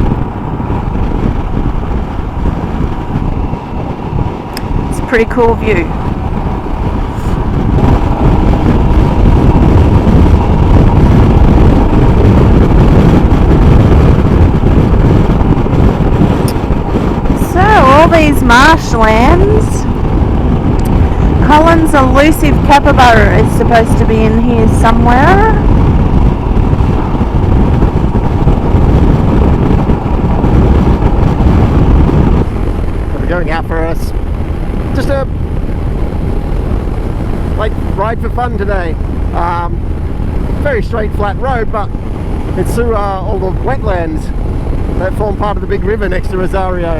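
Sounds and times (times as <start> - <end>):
motorcycle engine hum: 0.0 - 46.9
wind and road noise: 0.0 - 46.9.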